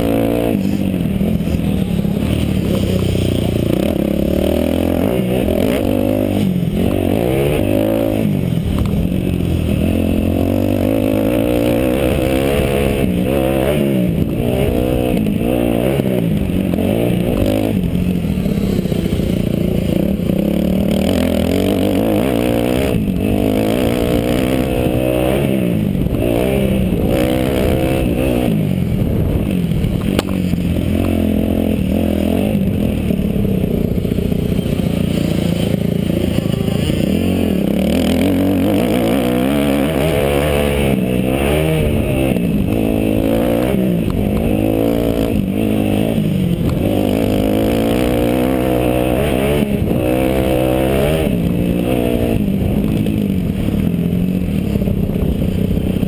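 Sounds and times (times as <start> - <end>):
motocross bike engine racing: 0.0 - 56.0.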